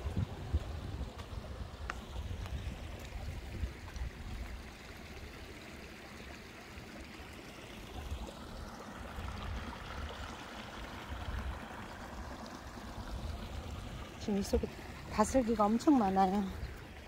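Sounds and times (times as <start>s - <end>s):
stream trickling over rocks: 0.0s - 17.0s.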